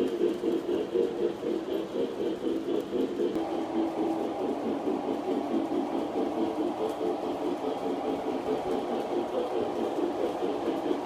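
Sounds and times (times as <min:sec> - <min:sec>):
model train wheels rumbling: 0:00.0 - 0:11.0.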